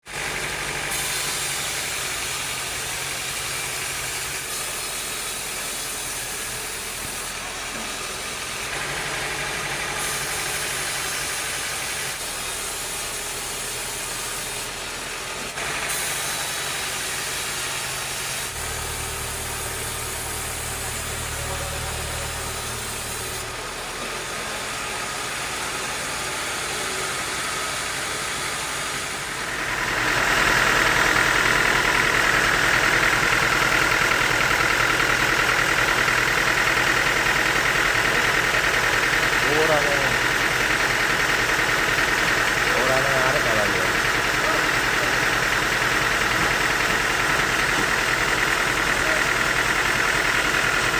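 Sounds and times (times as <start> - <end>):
sawmill machinery running: 0.0 - 50.9.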